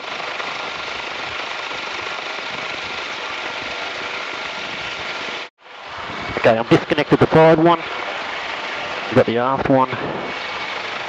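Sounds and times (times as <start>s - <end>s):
helicopter rotor and engine rush: 0.0s - 11.0s
thin steady whine: 0.0s - 11.0s.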